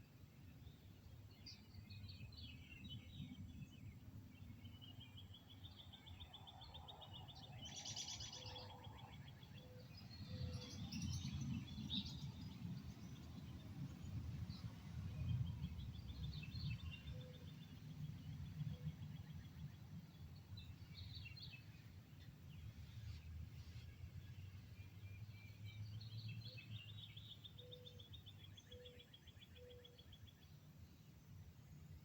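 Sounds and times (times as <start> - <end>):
small birds chirping and singing: 0.0 - 32.0.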